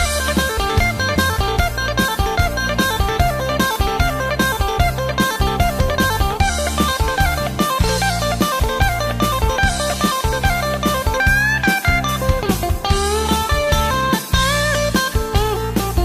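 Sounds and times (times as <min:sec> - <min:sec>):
bass and drums: 0:00.0 - 0:16.0
lead electric guitar: 0:00.0 - 0:16.0.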